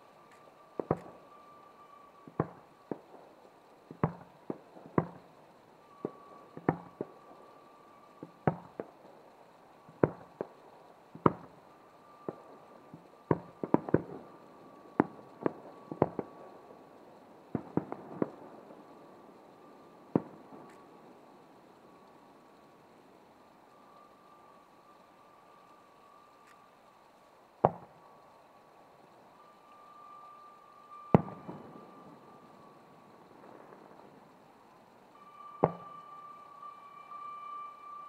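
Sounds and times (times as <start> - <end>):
fireworks shells bursting: 0.0 - 38.0.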